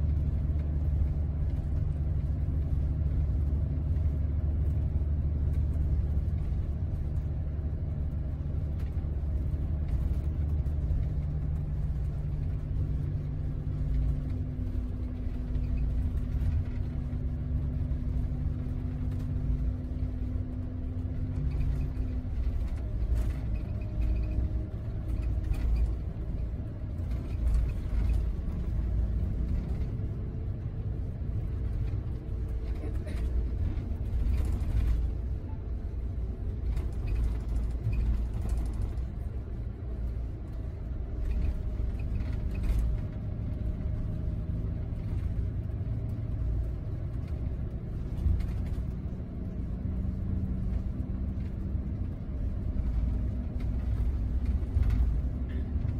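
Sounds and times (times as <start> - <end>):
bus engine drone: 0.0 - 55.9
road rumble: 0.0 - 55.9.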